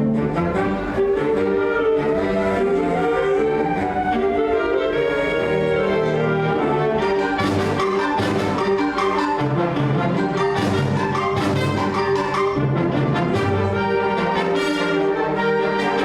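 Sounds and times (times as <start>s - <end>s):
bowed strings holding notes: 0.0s - 16.0s
orchestra playing: 0.0s - 16.0s.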